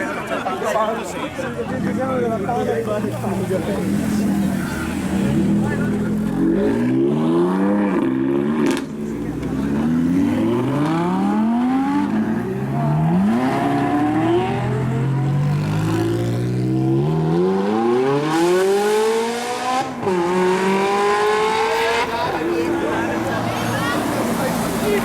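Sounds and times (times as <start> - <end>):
car engines accelerating hard: 0.3 - 25.0.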